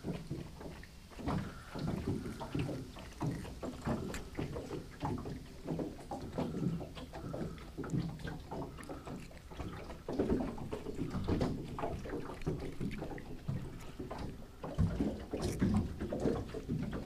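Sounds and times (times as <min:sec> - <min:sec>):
small waves lapping against boat hull: 0:00.0 - 0:17.0.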